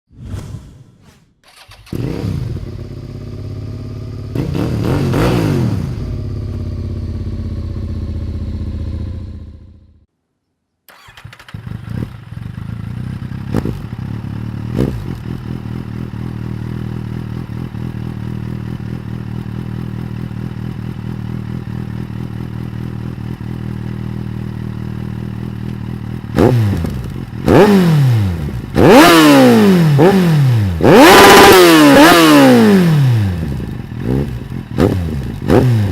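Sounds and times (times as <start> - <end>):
motorcycle engine revving and idling: 1.5 - 10.1, 10.9 - 35.9.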